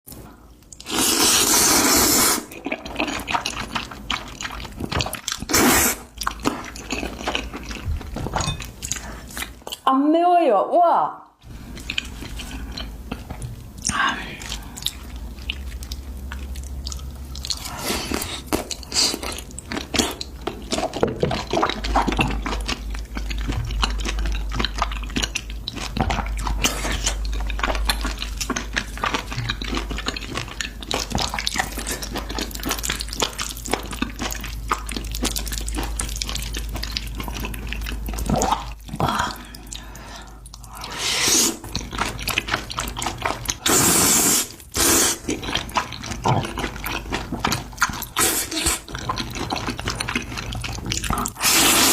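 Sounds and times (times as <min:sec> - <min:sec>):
wet chewing and biting: 0:00.6 - 0:09.8, 0:11.4 - 0:51.9.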